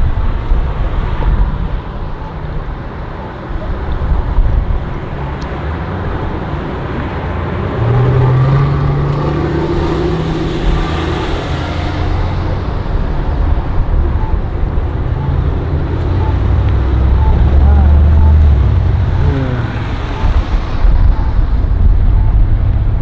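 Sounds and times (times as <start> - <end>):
wind on microphone: 0.0 - 23.0
vehicle passing: 3.0 - 23.0.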